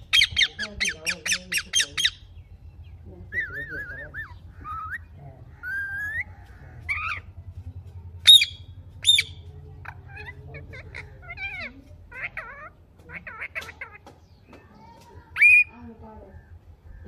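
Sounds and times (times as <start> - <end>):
parrots calling: 0.0 - 7.6, 8.2 - 17.0
steady low hum: 0.0 - 14.5.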